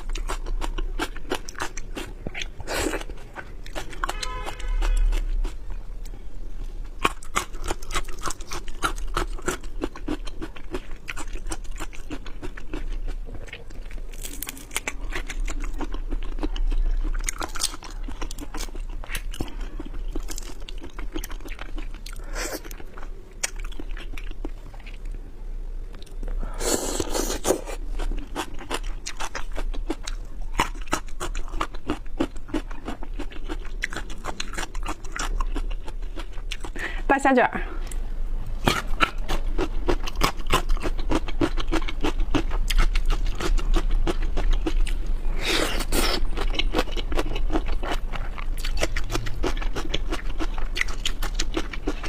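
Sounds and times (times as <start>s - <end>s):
chewing and crunching seafood: 0.0s - 37.0s, 37.8s - 52.0s.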